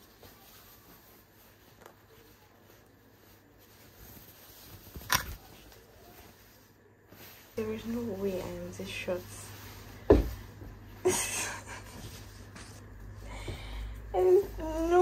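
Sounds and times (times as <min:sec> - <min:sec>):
fabric rustling: 0:00.0 - 0:15.0.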